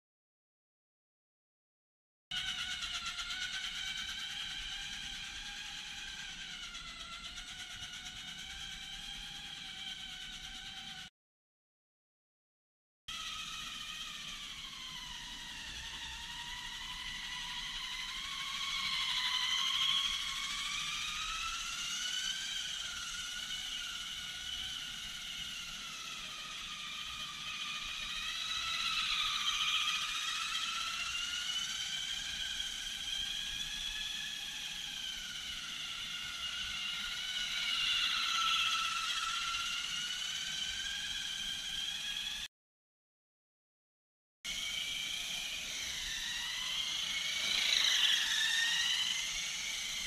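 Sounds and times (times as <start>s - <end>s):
electric rc car motor whine: 2.3s - 11.1s, 13.1s - 42.5s, 44.5s - 50.0s.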